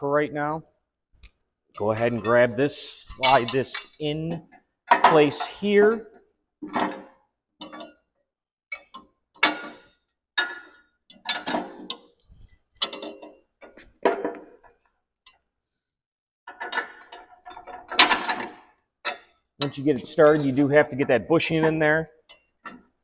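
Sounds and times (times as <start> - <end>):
metal clanks and clinks: 1.8 - 6.0, 6.6 - 8.1, 8.7 - 15.4, 16.5 - 23.0.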